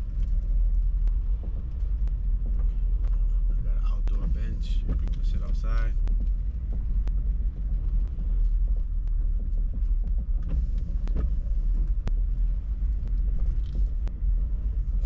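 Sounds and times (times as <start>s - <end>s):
car road and engine rumble: 0.0s - 15.0s
raindrops ticking: 0.0s - 15.0s.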